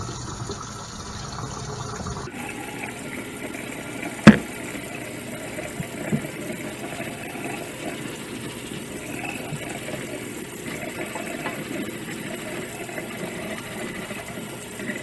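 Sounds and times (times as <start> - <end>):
tap running into metal sink: 2.8 - 15.0.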